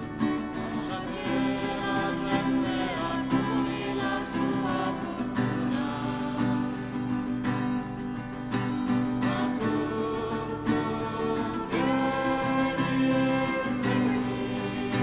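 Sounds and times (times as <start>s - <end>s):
strummed acoustic guitar: 0.0s - 15.0s
person singing a hymn: 0.6s - 7.1s, 9.2s - 15.0s.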